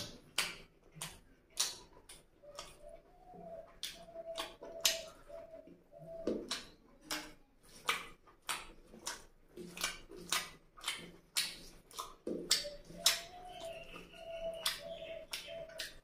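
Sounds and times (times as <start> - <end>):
lip smacks: 0.0 - 16.0
wet chewing: 0.0 - 16.0.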